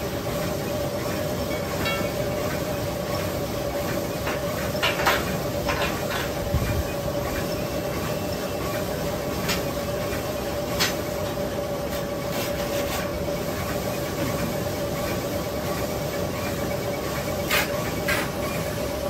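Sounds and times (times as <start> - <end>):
machine hum with whine: 0.0 - 19.0.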